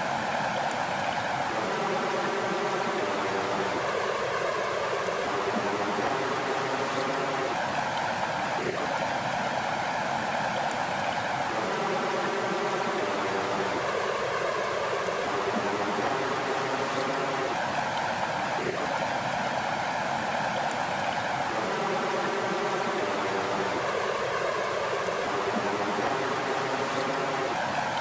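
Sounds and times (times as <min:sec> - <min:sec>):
water flowing: 0:00.0 - 0:28.0.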